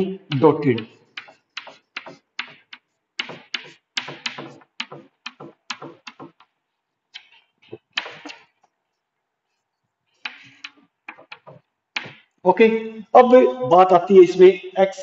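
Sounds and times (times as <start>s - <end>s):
chalk tapping and scraping blackboard: 0.3s - 12.4s.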